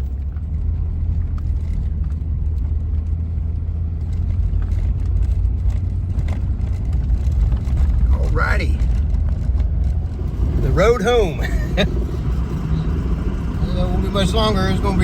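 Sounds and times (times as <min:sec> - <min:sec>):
vehicle engine and tyre rumble: 0:00.0 - 0:15.0.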